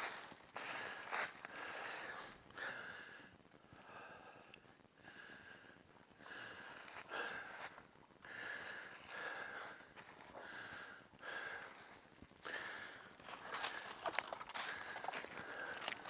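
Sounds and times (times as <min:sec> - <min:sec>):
person breathing heavily: 0:00.0 - 0:16.0.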